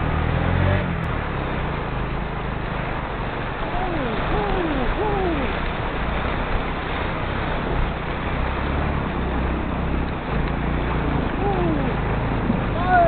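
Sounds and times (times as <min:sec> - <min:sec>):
motorcycle engine at low revs: 0:00.0 - 0:13.0
river water rushing: 0:00.0 - 0:13.0.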